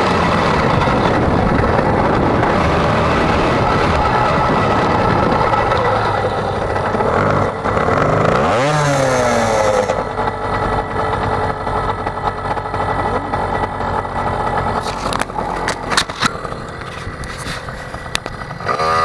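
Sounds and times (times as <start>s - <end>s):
motorbike engine revving and idling: 0.0s - 19.0s.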